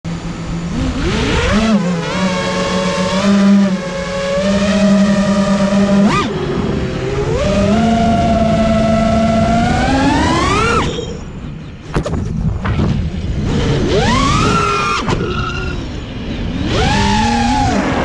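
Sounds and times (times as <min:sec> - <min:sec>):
quadcopter motors buzzing whine: 0:00.1 - 0:18.0.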